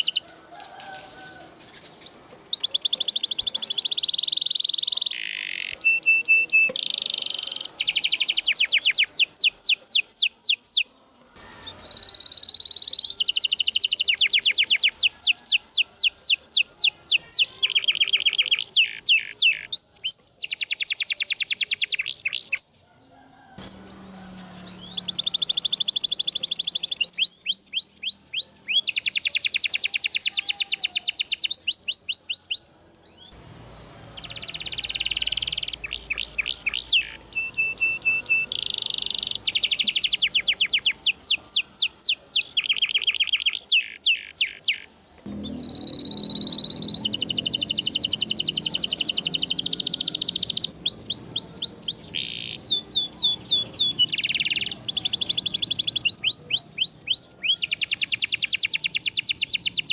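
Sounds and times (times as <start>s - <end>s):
canary singing trills: 0.0s - 0.3s, 1.2s - 59.9s.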